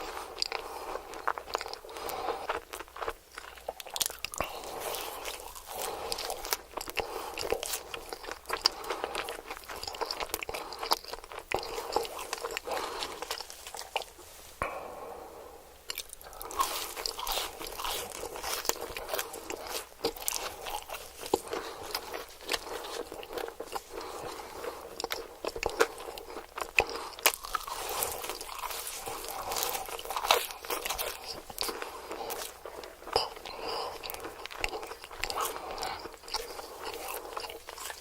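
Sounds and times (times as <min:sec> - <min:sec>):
person chewing crunchy food: 0:00.0 - 0:38.0.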